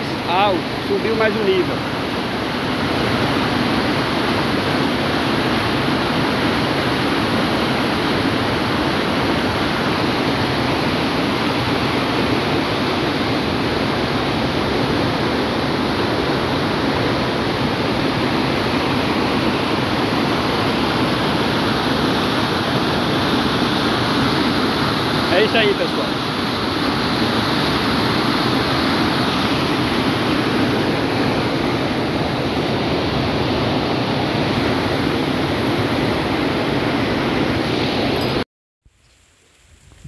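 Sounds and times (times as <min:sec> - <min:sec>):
muddy water rushing over rocks: 0:00.0 - 0:37.6.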